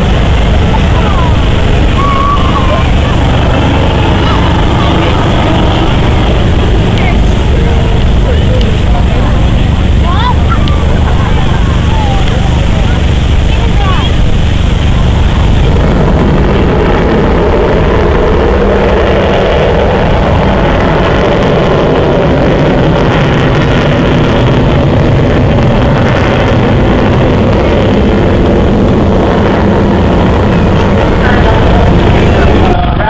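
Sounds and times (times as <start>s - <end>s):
loud steady jet noise: 0.0s - 33.0s.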